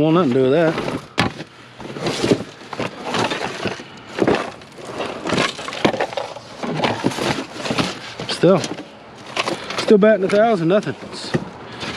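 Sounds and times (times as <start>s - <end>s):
junk rummaged through in a box: 0.1s - 11.9s.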